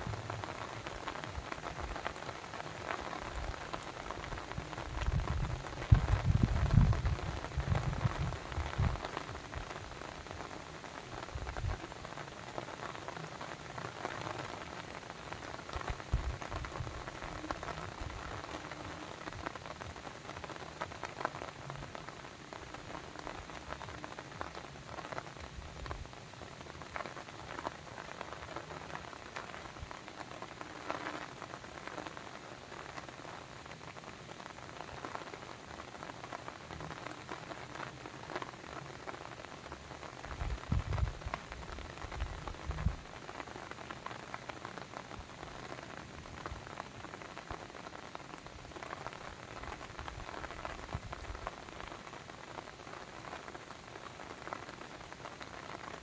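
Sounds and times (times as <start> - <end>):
constant hiss: 0.0 - 56.0.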